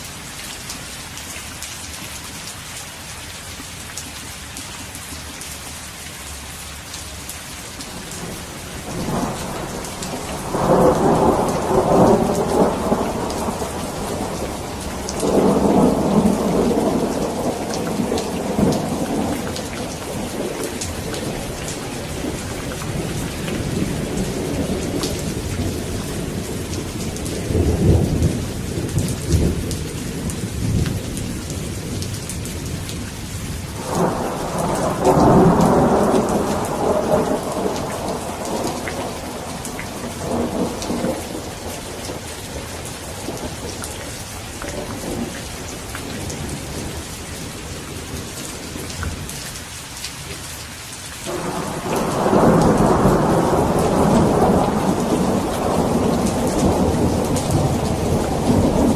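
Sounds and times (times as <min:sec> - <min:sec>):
steady rain falling: 0:00.0 - 0:58.9
thunder rumbling: 0:07.9 - 0:33.0, 0:33.7 - 0:49.4, 0:51.3 - 0:58.9.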